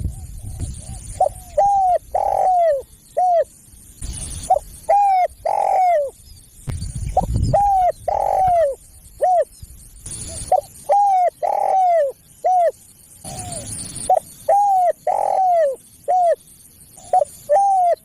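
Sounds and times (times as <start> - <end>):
dove cooing: 0.0 - 3.5, 4.4 - 6.2, 7.2 - 9.5, 10.1 - 16.4, 17.0 - 18.0.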